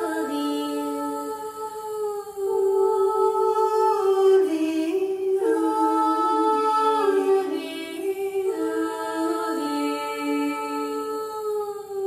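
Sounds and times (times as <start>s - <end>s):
voices singing a cappella: 0.0s - 12.0s.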